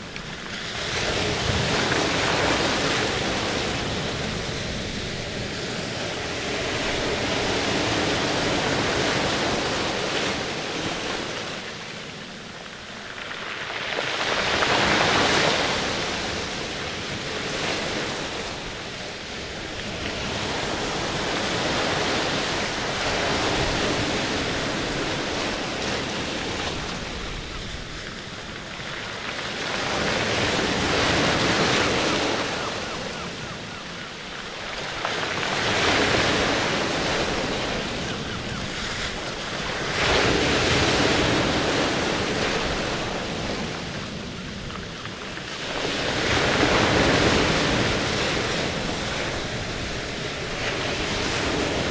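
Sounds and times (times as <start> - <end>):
rushing surf-like water: 0.0 - 51.9.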